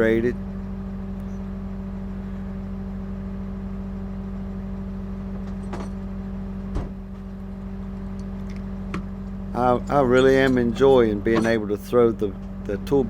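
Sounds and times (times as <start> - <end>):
diesel truck engine idling: 0.0 - 5.4, 6.1 - 13.0.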